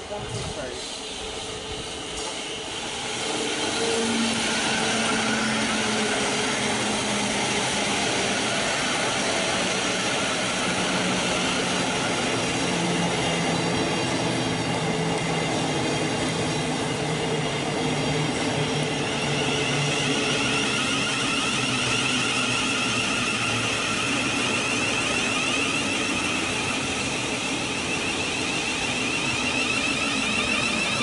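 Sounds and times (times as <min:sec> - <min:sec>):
train wheels rushing: 0:00.0 - 0:31.0.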